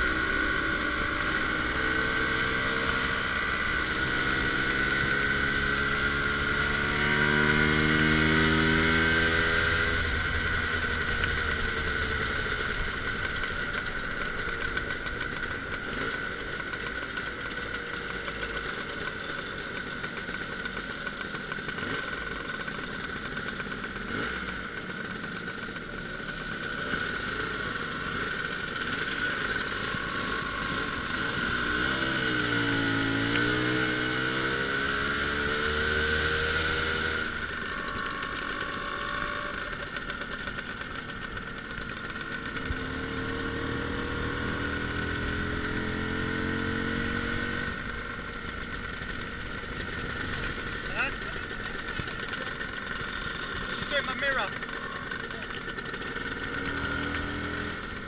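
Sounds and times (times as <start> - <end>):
motor scooter engine running: 0.0 - 58.0.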